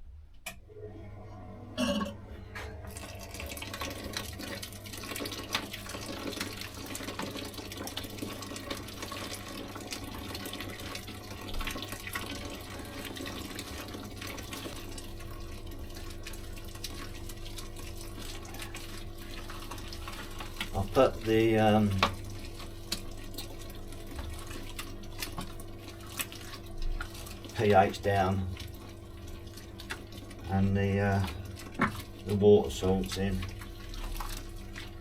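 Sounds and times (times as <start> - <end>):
pump humming: 0.5 - 35.0
liquid flowing and splashing: 1.8 - 35.0.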